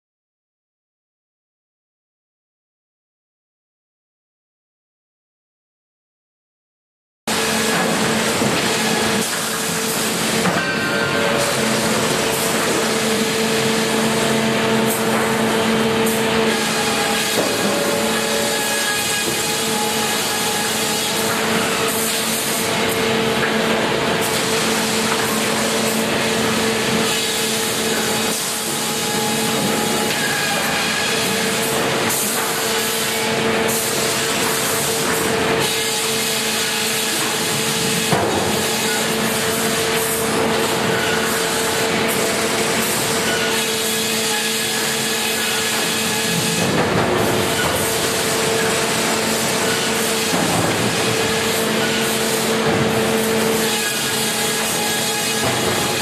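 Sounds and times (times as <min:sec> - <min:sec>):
machine hum: 0:07.3 - 0:56.0
saws and roller conveyors: 0:07.3 - 0:56.0.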